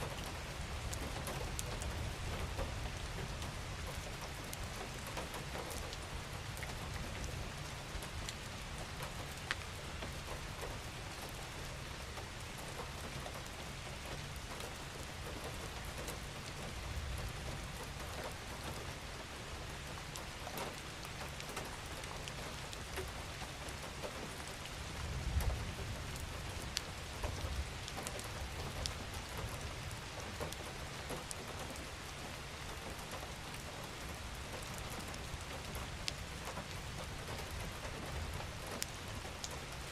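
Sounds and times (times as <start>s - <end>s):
gentle rain: 0.0s - 39.9s
raindrops ticking: 0.1s - 39.9s.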